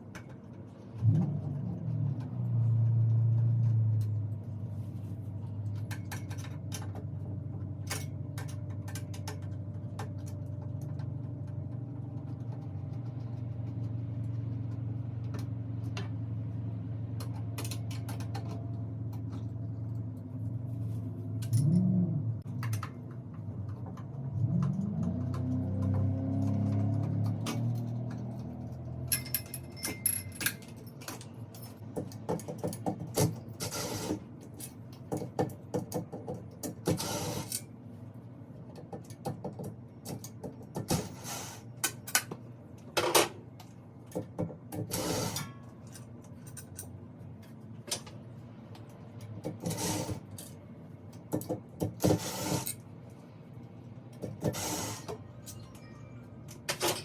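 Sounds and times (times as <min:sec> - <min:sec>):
tools and metal hardware clicking: 0:05.6 - 0:16.1, 0:17.2 - 0:20.1, 0:21.4 - 0:37.8, 0:38.7 - 0:53.2, 0:54.1 - 0:57.0.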